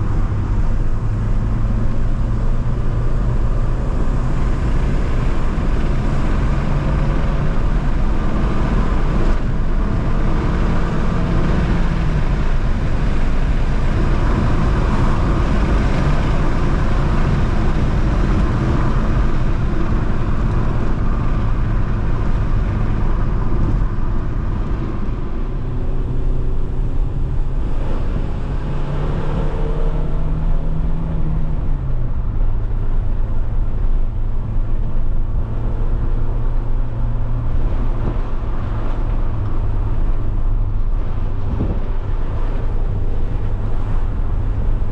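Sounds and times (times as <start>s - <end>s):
car engine revving: 0.0s - 44.9s
road noise: 0.0s - 44.9s.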